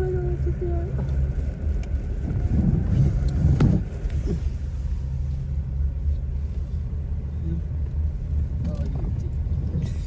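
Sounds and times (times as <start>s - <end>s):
car road noise rumble: 0.0s - 10.0s.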